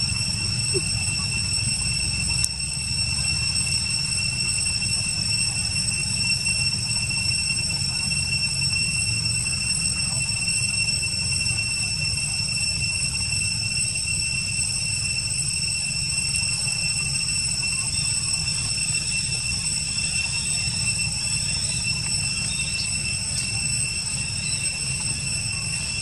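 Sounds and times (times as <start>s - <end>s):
high-pitched whine: 0.0s - 26.0s.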